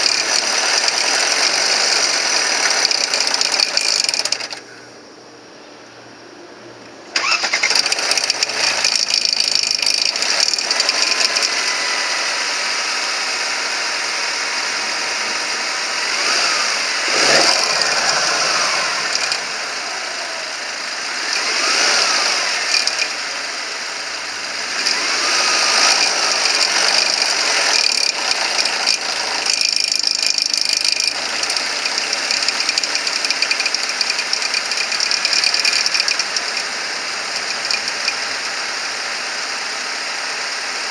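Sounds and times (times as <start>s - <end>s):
engine running with mechanical rattle: 0.0s - 5.0s, 6.8s - 40.9s.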